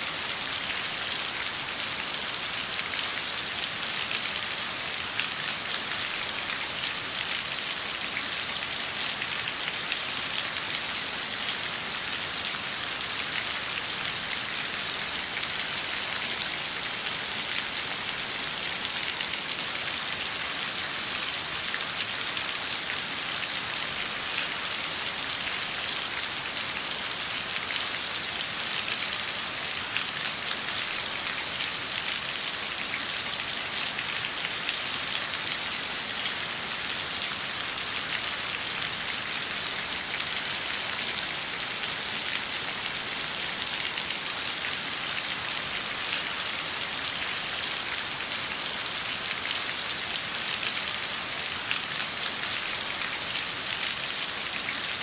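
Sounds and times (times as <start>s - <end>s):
rain on a hard surface: 0.0s - 55.0s.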